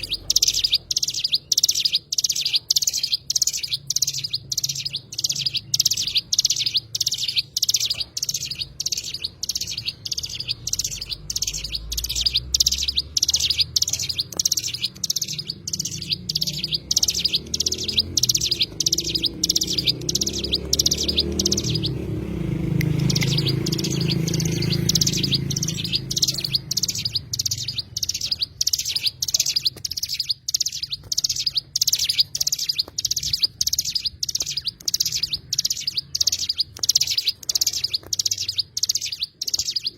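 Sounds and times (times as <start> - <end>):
bird chirping high notes: 0.0 - 39.9.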